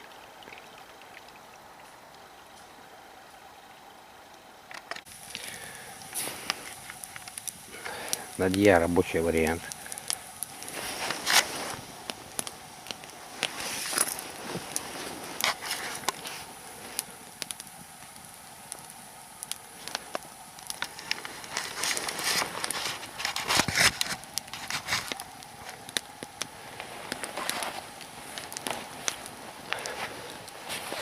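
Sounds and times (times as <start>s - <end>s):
log fire crackling and popping: 4.2s - 31.0s.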